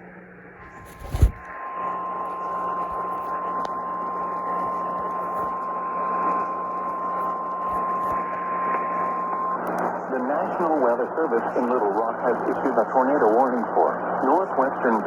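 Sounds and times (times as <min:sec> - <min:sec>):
radio hiss: 0:00.6 - 0:15.0.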